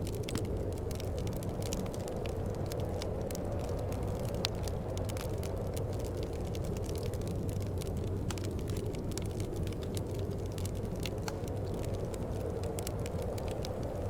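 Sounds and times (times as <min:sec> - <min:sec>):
sharp snaps and pops: 0:00.0 - 0:14.0
wood fire crackling: 0:00.0 - 0:14.0.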